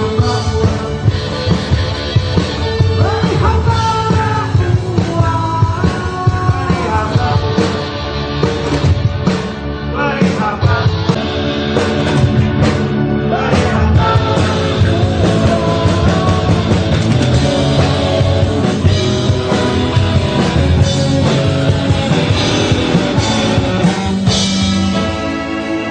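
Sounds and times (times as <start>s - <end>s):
rock band playing: 0.0s - 25.9s.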